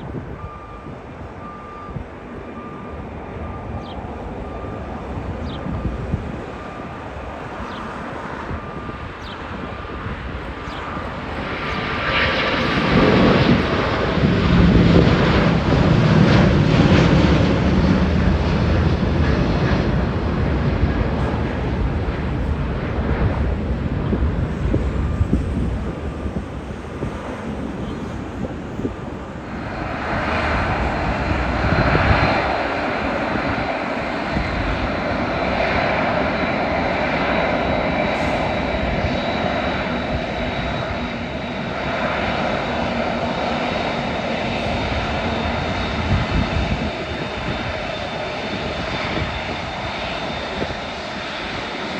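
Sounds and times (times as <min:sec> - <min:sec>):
jet engines at takeoff: 0:00.0 - 0:51.9
jet engines taxiing with whine: 0:00.0 - 0:51.9.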